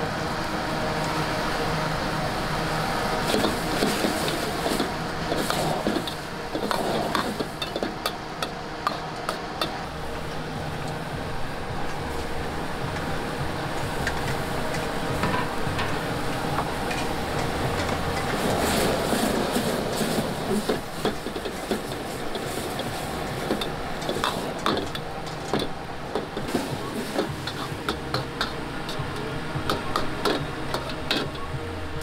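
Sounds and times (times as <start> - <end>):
food sizzling: 2.5 - 32.0.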